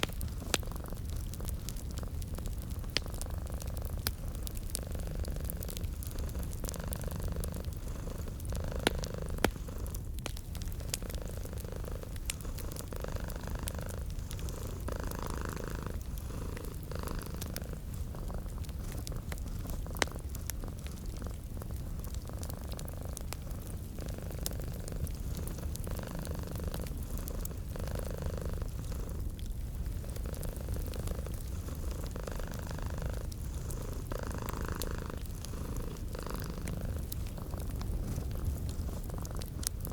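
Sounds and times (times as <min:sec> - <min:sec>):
cat purring: 0:00.0 - 0:39.9
wood fire crackling: 0:00.0 - 0:39.9.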